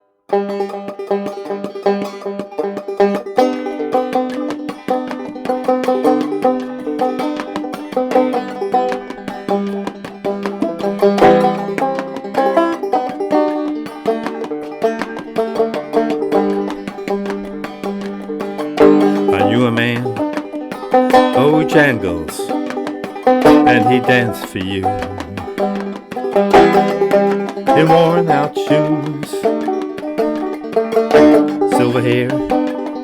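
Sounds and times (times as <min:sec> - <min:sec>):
banjo melody with drone string: 0:00.3 - 0:33.0.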